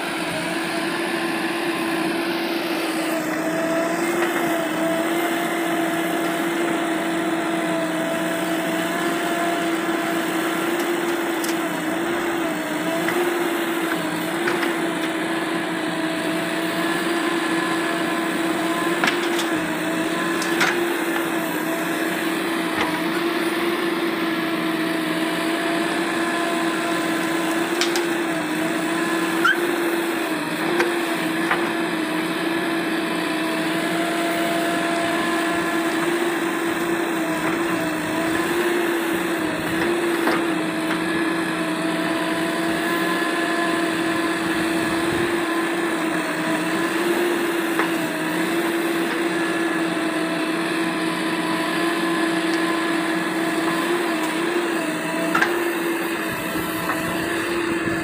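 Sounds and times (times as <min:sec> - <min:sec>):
diesel engine running with whine: 0:00.0 - 0:58.0.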